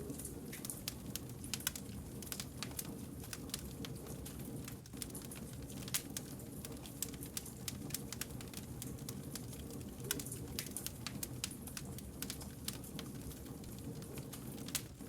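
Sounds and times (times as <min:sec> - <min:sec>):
wood fire crackling: 0:00.0 - 0:15.0
burning logs rumbling: 0:00.4 - 0:15.0.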